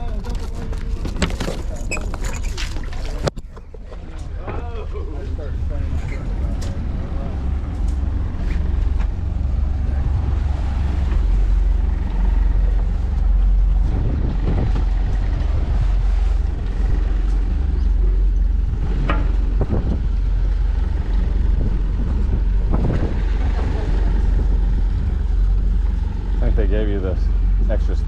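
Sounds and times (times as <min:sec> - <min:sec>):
boat engine idling: 0:00.0 - 0:28.0
wind buffeting microphone: 0:02.8 - 0:28.0.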